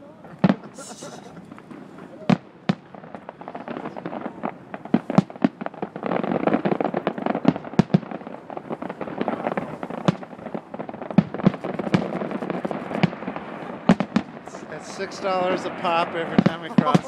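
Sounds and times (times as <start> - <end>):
rapid firework crackling: 0.4 - 17.0.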